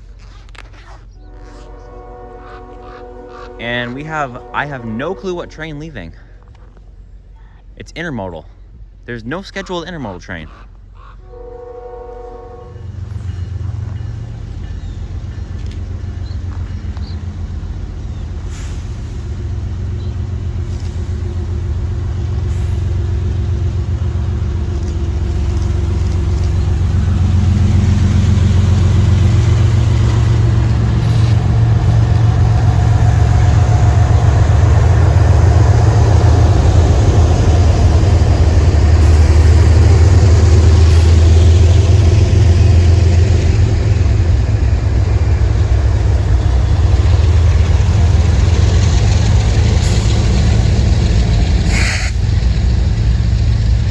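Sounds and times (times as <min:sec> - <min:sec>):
locomotive engine drone: 0:00.0 - 0:53.9.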